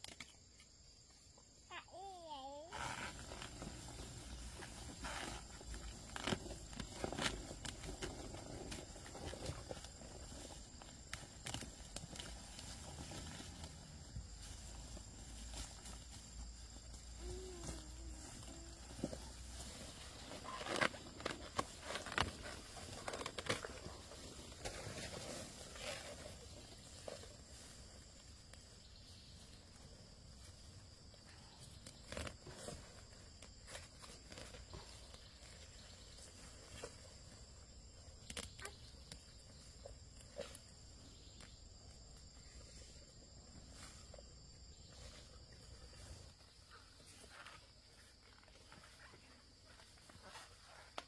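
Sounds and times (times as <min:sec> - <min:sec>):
insects droning: 0:00.0 - 0:51.0.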